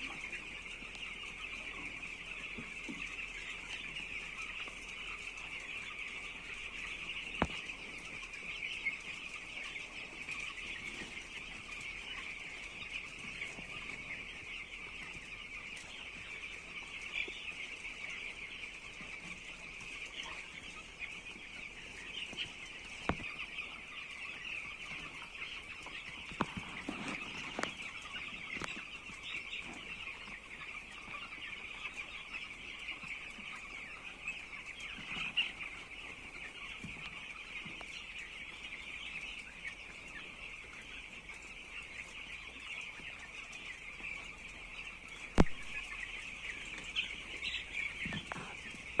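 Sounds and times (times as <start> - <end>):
chicks cheeping: 0.0 - 49.0.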